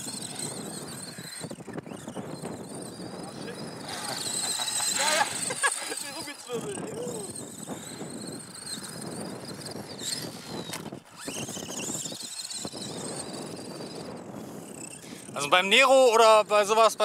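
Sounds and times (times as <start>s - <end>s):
rc truck electric motor whine: 0.0s - 17.0s.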